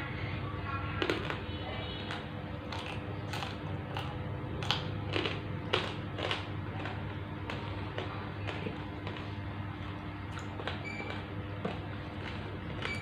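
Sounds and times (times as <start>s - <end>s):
steady low hum: 0.0s - 13.0s
person chewing with crunches: 0.9s - 13.0s.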